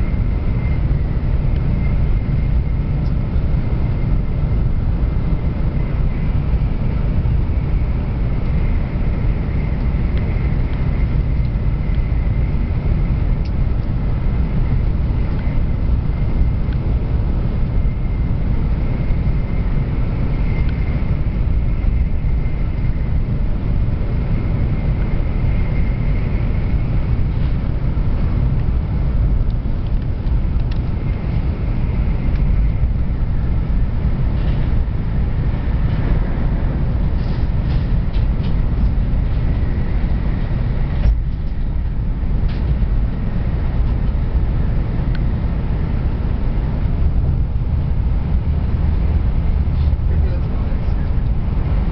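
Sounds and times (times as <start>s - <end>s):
faint steady whine: 0.0s - 51.9s
train rumbling: 0.0s - 51.9s.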